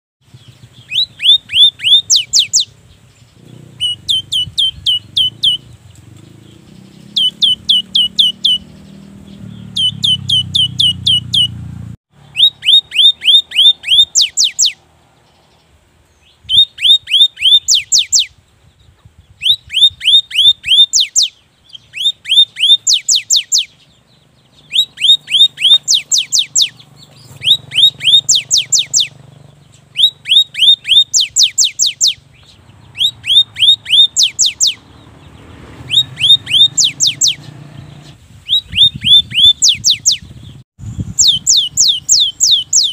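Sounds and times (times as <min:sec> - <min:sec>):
tit singing whistled notes: 0:00.4 - 0:02.8, 0:03.4 - 0:11.6, 0:12.3 - 0:14.8, 0:16.2 - 0:18.4, 0:19.3 - 0:35.0, 0:35.8 - 0:42.9.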